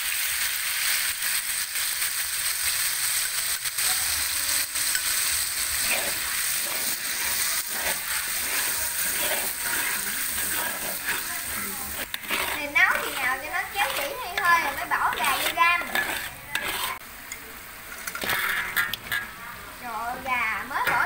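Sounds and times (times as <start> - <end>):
garlic sizzling in hot oil: 0.0 - 21.0
spatula scraping wok: 0.1 - 17.1, 17.8 - 21.0.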